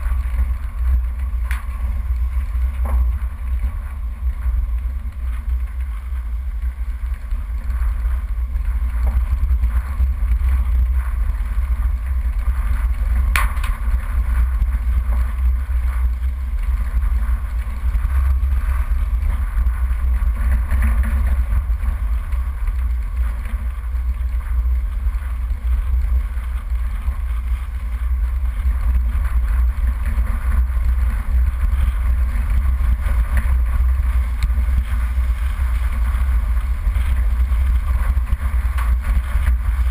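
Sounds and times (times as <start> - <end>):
vehicle driving on rough dirt track: 0.0 - 39.9.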